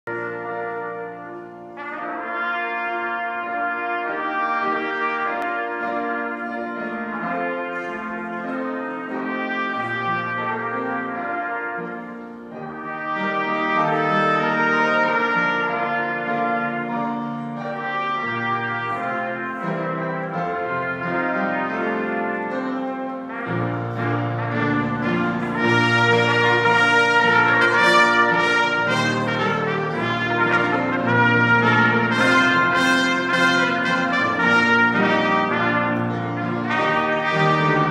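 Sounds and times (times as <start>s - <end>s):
piano accompaniment: 0.0s - 37.9s
trumpets playing a melody: 0.0s - 37.9s.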